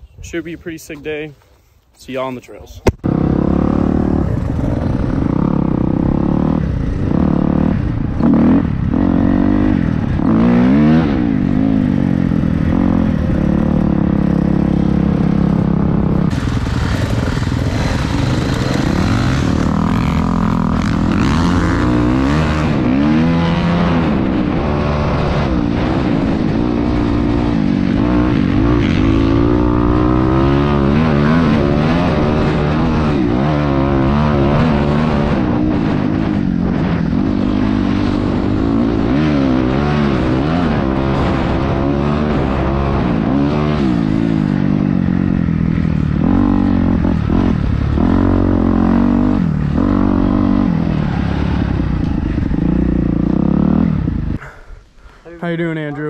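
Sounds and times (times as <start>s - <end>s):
dirt bike engine revving: 3.0s - 54.7s.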